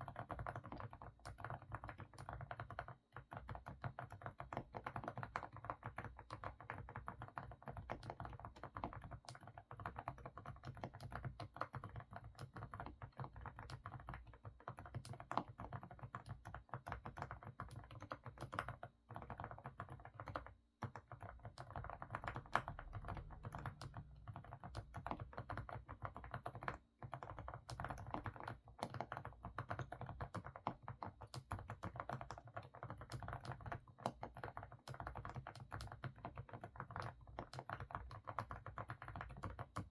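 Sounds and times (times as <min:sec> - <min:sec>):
muffled mechanical keyboard typing: 0:00.0 - 0:39.9.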